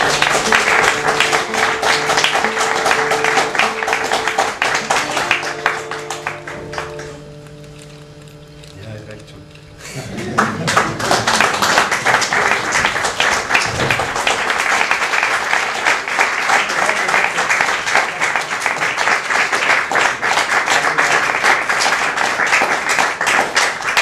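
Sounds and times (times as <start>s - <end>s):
audience applauding: 0.0s - 7.9s, 9.9s - 24.0s.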